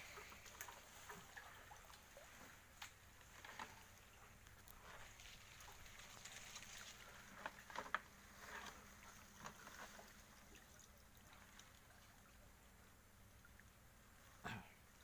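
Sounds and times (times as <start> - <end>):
water dripping and trickling: 0.0 - 14.4.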